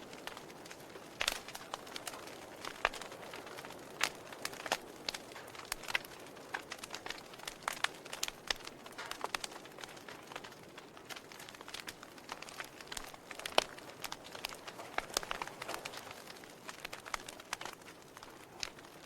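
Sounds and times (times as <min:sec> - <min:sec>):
sharp pops of fire: 0:00.0 - 0:19.0
soft hiss of fire: 0:00.0 - 0:19.0
wood fire crackling: 0:00.0 - 0:19.0.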